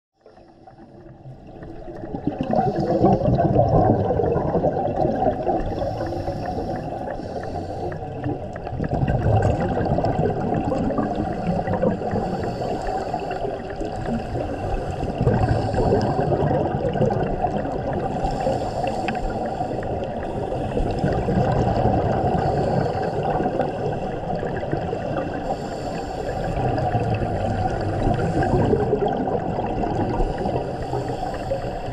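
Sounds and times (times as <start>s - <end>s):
underwater bubbling and rumble: 0.2s - 31.9s.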